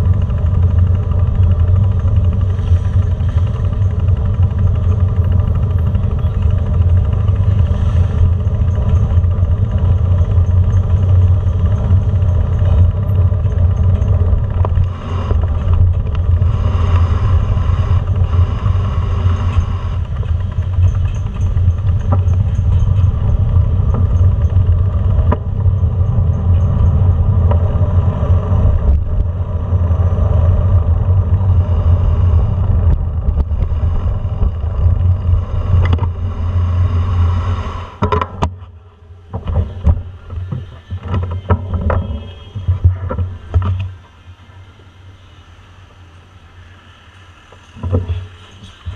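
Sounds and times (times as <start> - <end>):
small vehicle motor humming: 0.0 - 48.9.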